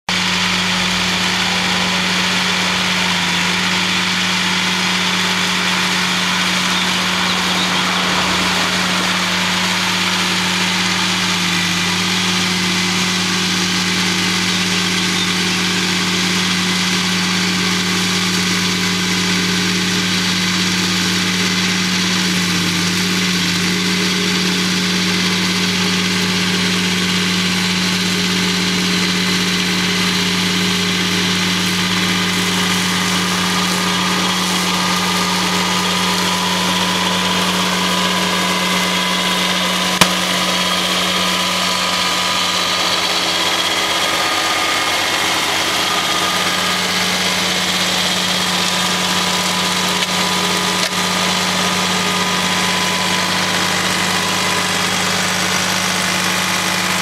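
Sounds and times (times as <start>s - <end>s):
tractor engine running: 0.0s - 57.0s
flail mower cutting grass: 0.1s - 57.0s.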